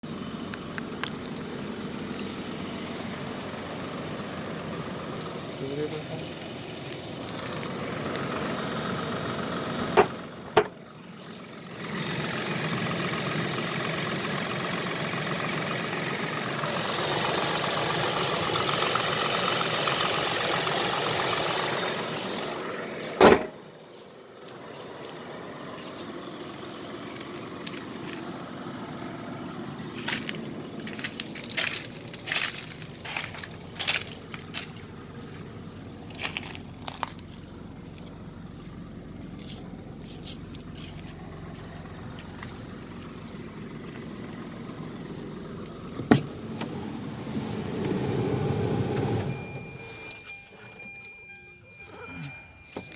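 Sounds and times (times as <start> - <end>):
car engine running: 0.0 - 52.9.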